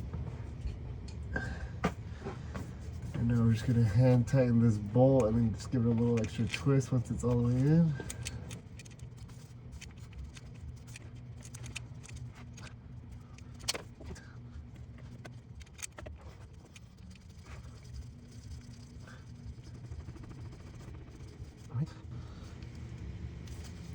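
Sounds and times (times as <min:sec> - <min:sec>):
low hum: 0:00.0 - 0:23.9.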